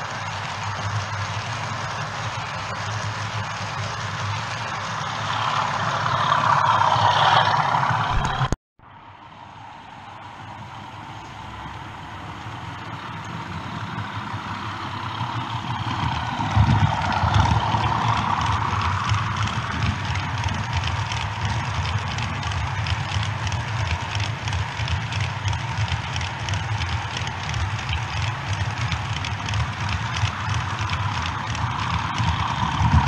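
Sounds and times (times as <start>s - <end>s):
model train wheels rumbling and clicking: 0.0s - 8.6s, 10.3s - 33.0s.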